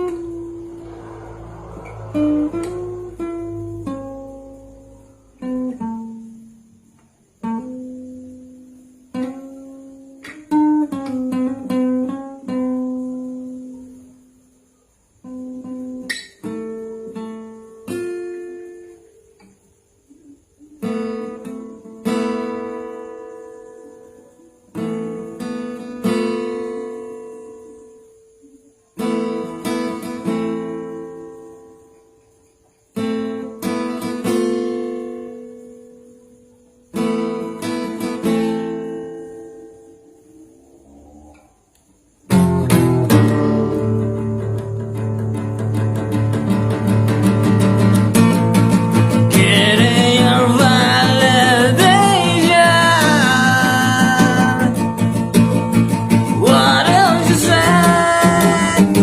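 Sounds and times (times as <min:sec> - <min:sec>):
acoustic guitar playing: 0:00.0 - 0:14.4, 0:15.2 - 0:40.6, 0:42.2 - 0:59.0.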